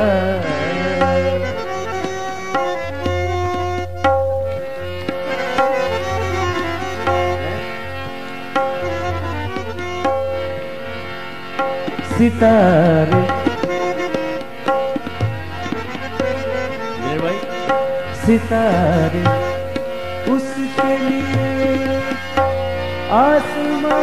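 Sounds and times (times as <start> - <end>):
harmonium sustained notes: 0.0 - 24.0
tabla drumming: 0.0 - 24.0.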